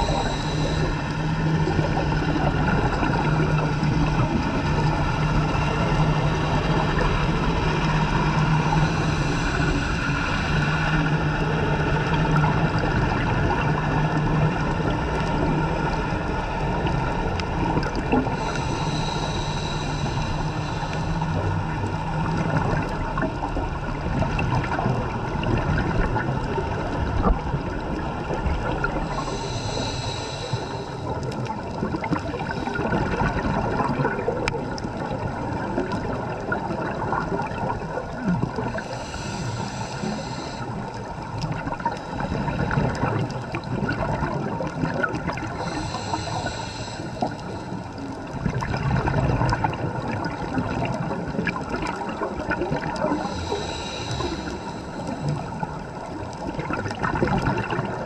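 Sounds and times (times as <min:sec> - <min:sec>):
low engine drone underwater: 0:00.0 - 0:58.0
rush of bubbles and water: 0:00.0 - 0:58.0.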